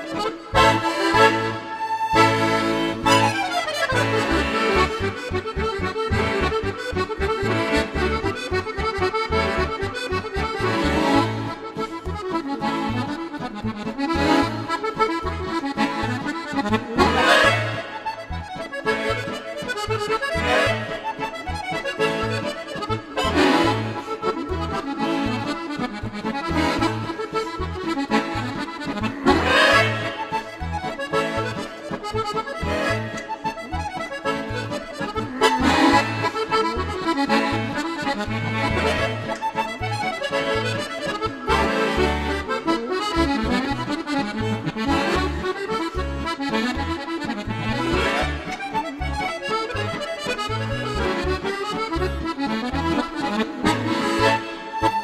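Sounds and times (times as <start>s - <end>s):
accordion bass notes and chords: 0.0s - 55.0s
accordion melody: 0.0s - 55.0s.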